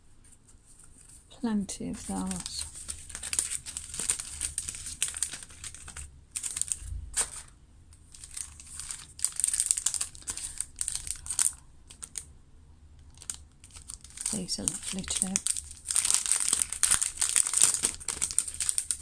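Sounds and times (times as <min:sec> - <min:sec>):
plastic sleeves crinkling: 0:00.3 - 0:12.3, 0:13.1 - 0:19.0.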